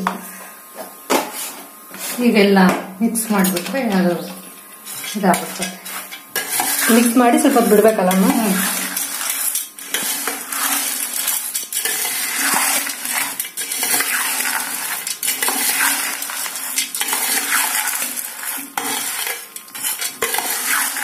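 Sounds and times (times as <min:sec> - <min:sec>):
snack mix rattling in steel bowl: 0:03.4 - 0:21.0.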